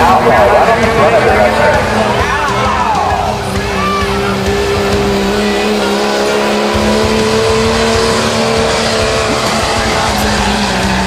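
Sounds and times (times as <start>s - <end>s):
diesel truck engine at full throttle: 0.0s - 11.0s.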